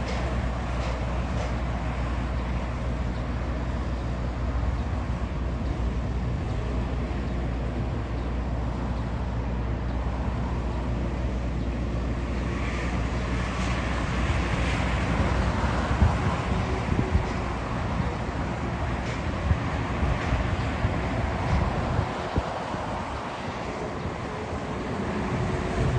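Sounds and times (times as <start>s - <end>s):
jet engines rumbling and hissing: 0.0s - 25.9s.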